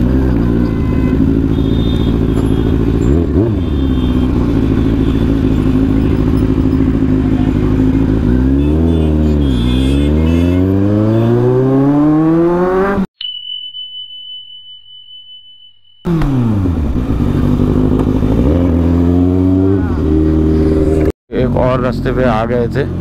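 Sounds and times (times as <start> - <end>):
motorcycle engine revving: 0.0 - 13.1, 16.1 - 23.0.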